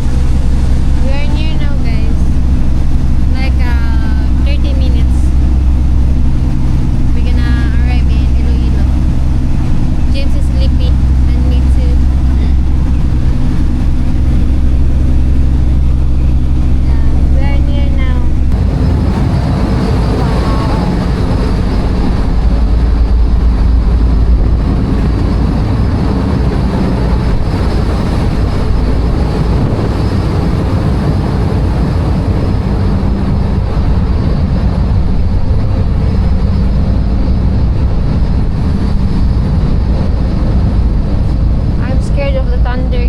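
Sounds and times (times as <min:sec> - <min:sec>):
constant rushing noise: 0:00.0 - 0:43.0
ship engine low rumble: 0:00.0 - 0:43.0.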